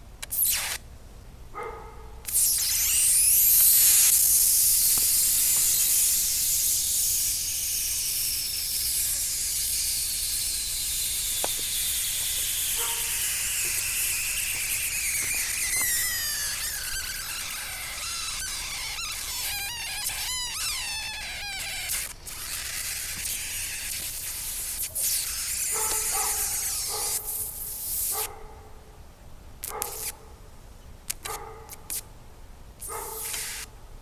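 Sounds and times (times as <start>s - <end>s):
electric arc hissing and squealing: 0.2s - 0.8s, 2.3s - 28.3s, 29.7s - 30.2s, 31.2s - 32.0s, 32.8s - 33.7s.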